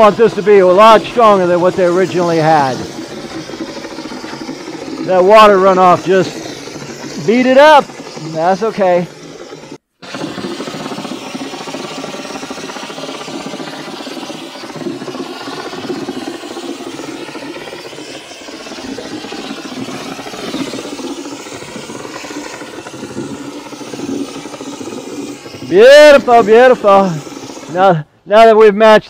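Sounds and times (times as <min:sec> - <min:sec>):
compressed air spray gun rushing: 0:00.0 - 0:28.1.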